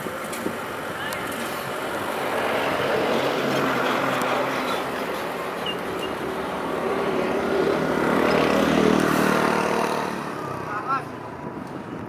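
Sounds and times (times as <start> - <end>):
steady engine hum: 0.0 - 12.0.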